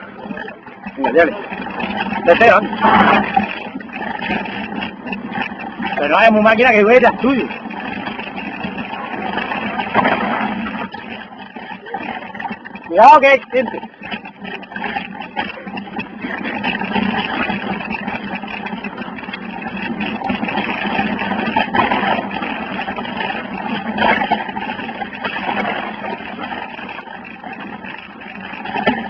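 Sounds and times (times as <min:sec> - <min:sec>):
bike rattling over rough ground: 0:00.0 - 0:29.0.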